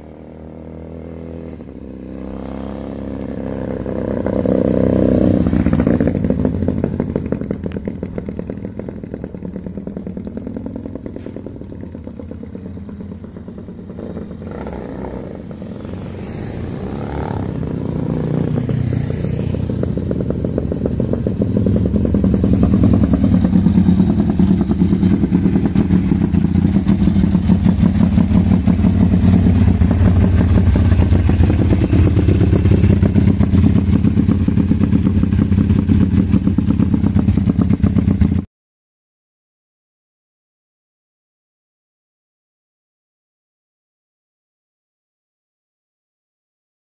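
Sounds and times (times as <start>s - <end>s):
motorcycle engine revving: 0.0s - 38.5s.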